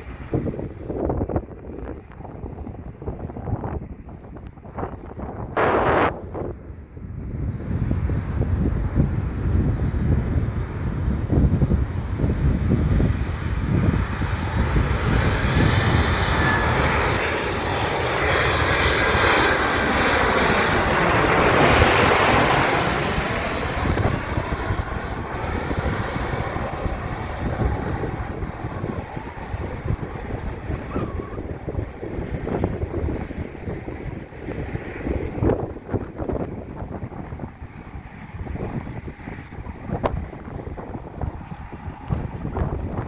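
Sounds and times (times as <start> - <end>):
jet airliner passing by: 0.0 - 43.0
wind buffeting microphone: 0.0 - 43.0.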